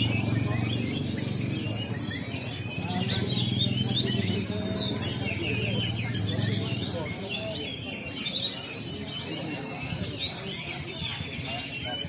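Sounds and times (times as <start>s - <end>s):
murmur of voices: 0.0s - 12.0s
songbirds chirping and trilling: 0.0s - 12.0s.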